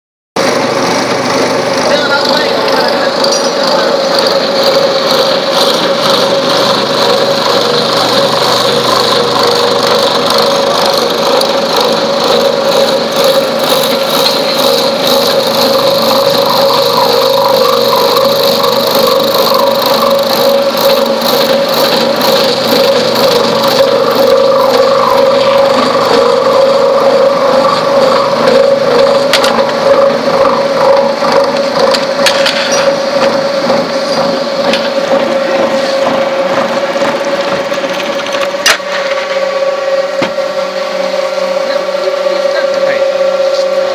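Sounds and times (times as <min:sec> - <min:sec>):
milling machine cutting metal: 0:00.4 - 0:43.9.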